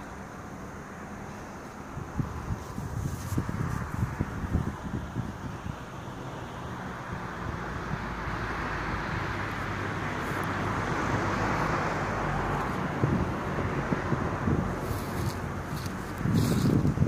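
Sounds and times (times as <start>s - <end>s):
car passing by: 0.0s - 17.0s.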